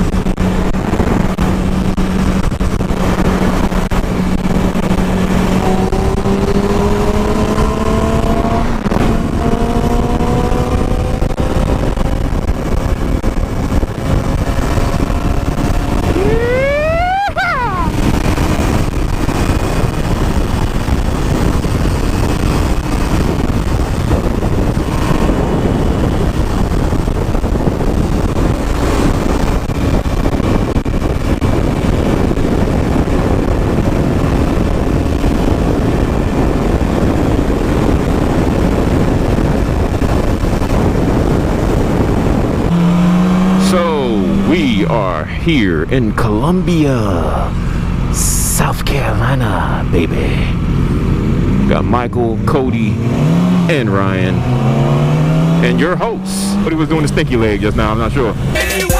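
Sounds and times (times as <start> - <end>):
motorcycle engine: 0.0 - 58.9
wind noise: 0.0 - 58.9.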